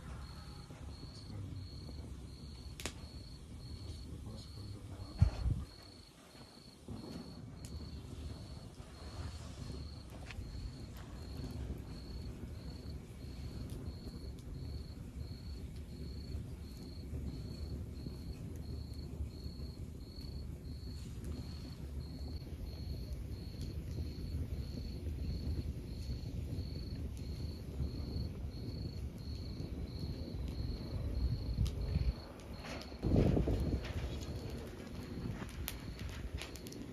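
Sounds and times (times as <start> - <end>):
fire crackling: 0.0 - 36.9
fire flames rumbling: 0.0 - 36.9.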